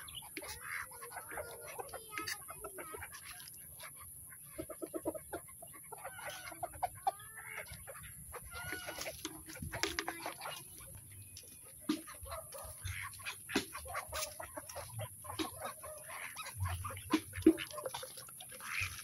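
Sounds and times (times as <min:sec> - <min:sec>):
poultry clucking: 0:00.0 - 0:19.0.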